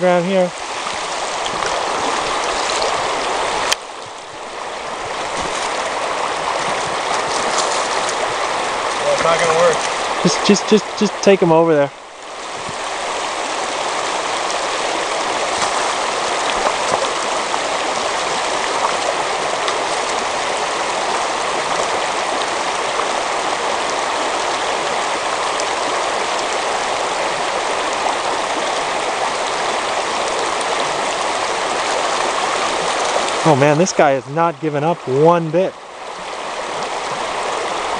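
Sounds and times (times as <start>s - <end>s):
river rushing over gravel: 0.0s - 37.9s.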